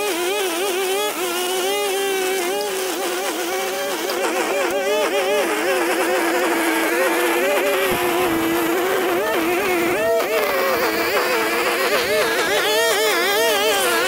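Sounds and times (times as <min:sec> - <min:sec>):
string trimmer engine cutting grass: 0:00.0 - 0:14.0.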